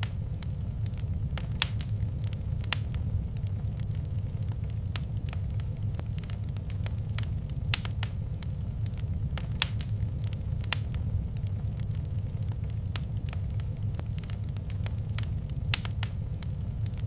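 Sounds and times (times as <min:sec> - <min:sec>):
fireplace fire crackling: 0:00.0 - 0:17.0
low rumble: 0:00.0 - 0:17.0.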